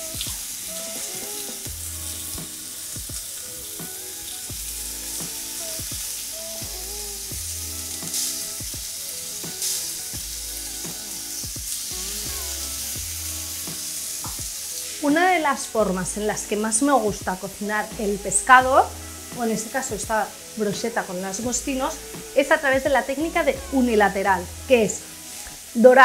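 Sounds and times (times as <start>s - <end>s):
skewers sizzling in frying pan: 0.0s - 26.0s.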